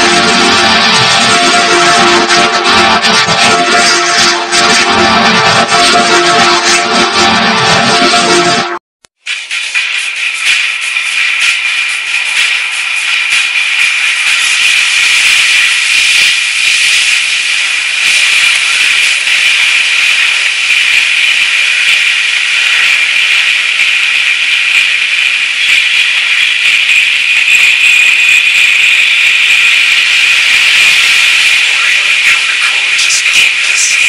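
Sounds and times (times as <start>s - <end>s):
distortion static hiss: 0.0s - 34.0s.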